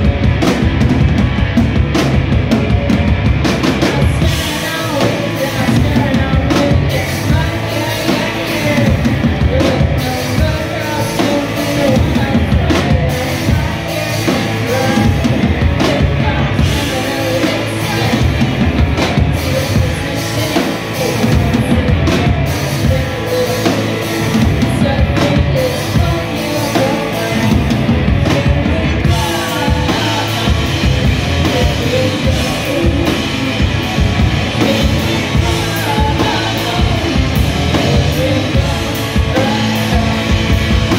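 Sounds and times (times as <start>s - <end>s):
drum kit: 0.0s - 40.9s
electric guitars: 0.0s - 40.9s
woman singing: 3.6s - 40.9s.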